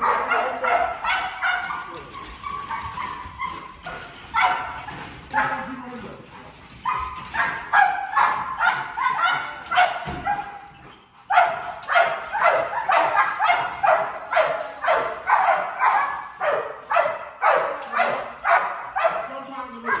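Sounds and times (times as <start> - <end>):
dogs barking: 0.0 - 20.0.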